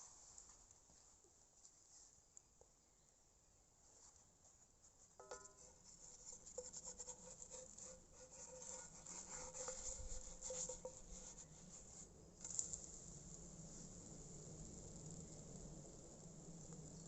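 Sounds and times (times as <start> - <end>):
crackling and sizzling stove: 0.0 - 2.8, 3.7 - 17.0.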